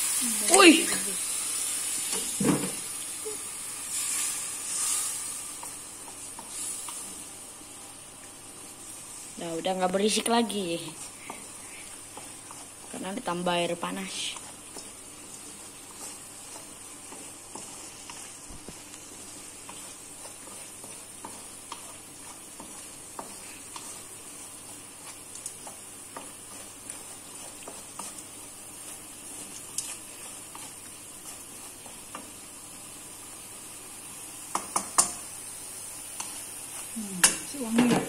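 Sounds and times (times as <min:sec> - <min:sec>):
paste sizzling in a wok: 0:00.0 - 0:38.0
wooden spatula stirring and scraping: 0:00.5 - 0:07.3, 0:08.3 - 0:33.5, 0:36.2 - 0:38.0.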